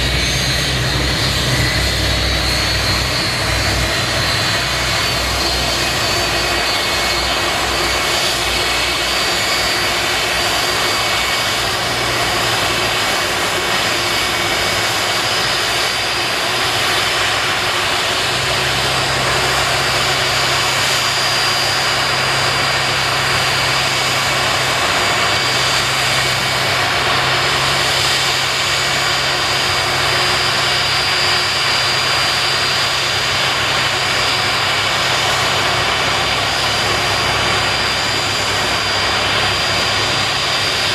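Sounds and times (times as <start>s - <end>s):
jet turbine whine and rumble: 0.0s - 40.9s.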